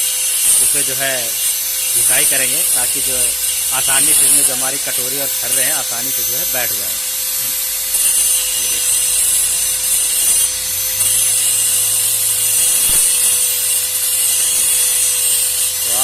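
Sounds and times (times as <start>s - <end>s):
angle grinder grinding steel: 0.0s - 16.0s.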